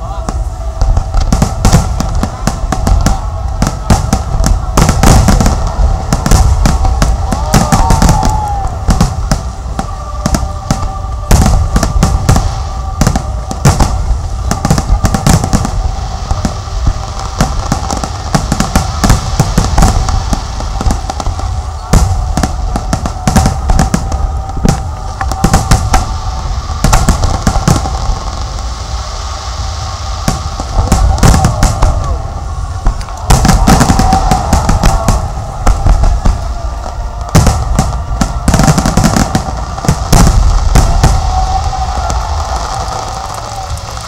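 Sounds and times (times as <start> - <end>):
fireworks bursts and crackling bangs: 0.0 - 44.0.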